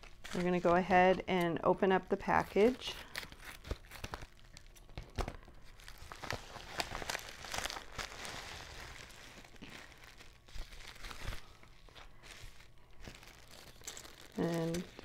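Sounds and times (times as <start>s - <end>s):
plastic packaging crinkling: 0.0s - 1.3s, 2.2s - 15.0s.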